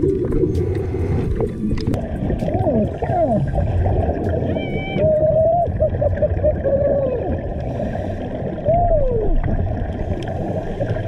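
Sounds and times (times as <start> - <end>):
underwater rumble and gurgling: 0.0 - 11.0.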